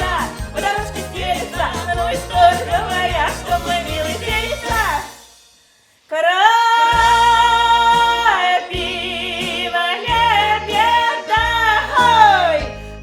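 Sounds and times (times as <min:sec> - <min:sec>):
woman singing folk song: 0:00.0 - 0:05.2, 0:06.1 - 0:13.0
instrumental backing with bass: 0:00.0 - 0:05.4, 0:07.0 - 0:13.0.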